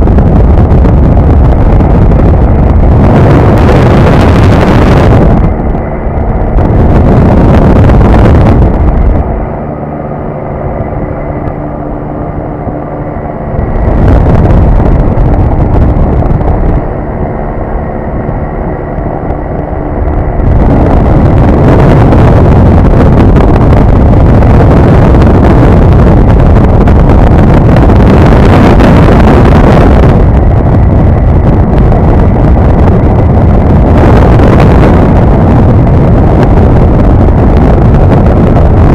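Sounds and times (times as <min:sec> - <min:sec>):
aircraft engine drone: 0:00.0 - 0:38.9
wind rush on microphone: 0:00.0 - 0:38.9.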